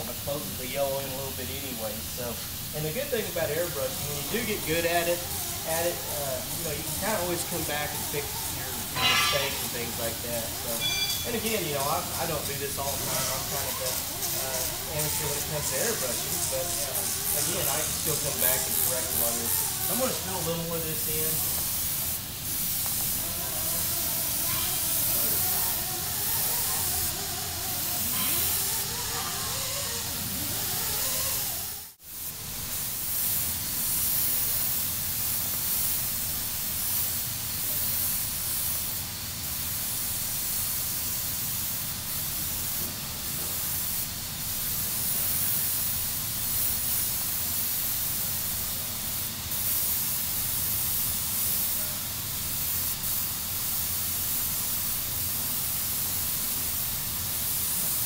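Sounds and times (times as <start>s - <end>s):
airbrush hissing: 0.0s - 58.0s.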